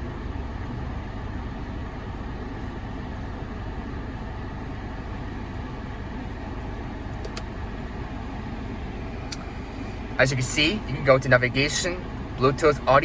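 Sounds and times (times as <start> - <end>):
car engine idling: 0.0 - 13.0
climate-control fan running: 0.0 - 13.0.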